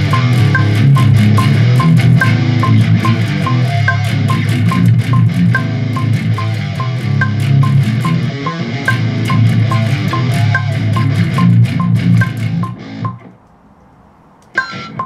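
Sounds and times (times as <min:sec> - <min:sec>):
drum beat: 0:00.0 - 0:12.8
electric bass guitar: 0:00.0 - 0:13.2.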